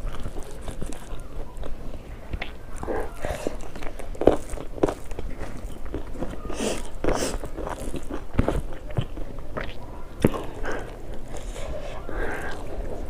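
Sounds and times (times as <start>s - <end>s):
mouth clicks: 0.0s - 13.0s
person chewing crunchy food: 0.0s - 13.0s.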